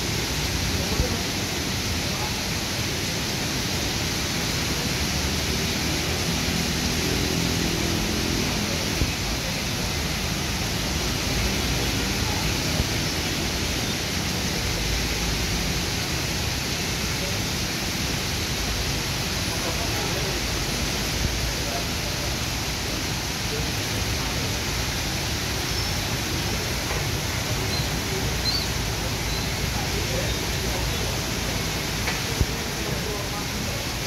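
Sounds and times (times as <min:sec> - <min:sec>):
heavy rain pouring: 0:00.0 - 0:34.0
vehicles passing on wet road: 0:02.9 - 0:34.0.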